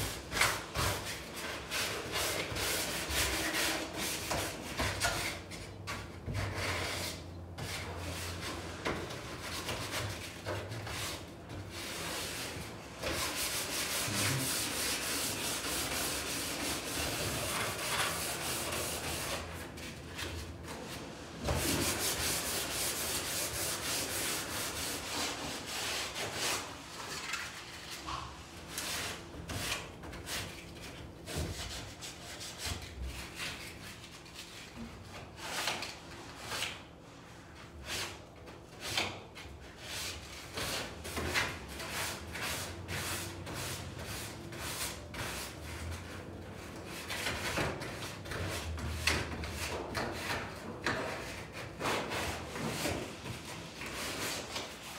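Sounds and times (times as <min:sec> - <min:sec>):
hand sanding a wall: 0:00.0 - 0:54.9.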